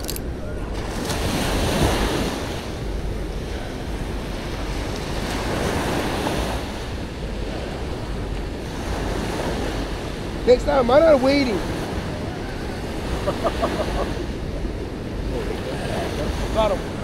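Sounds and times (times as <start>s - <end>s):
ocean surf washing onto beach: 0.0s - 17.0s
wind rumbling on microphone: 0.0s - 17.0s.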